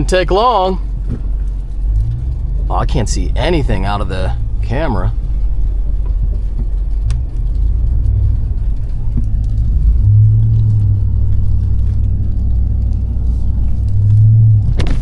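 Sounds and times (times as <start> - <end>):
engine drone inside cab: 0.0 - 15.0.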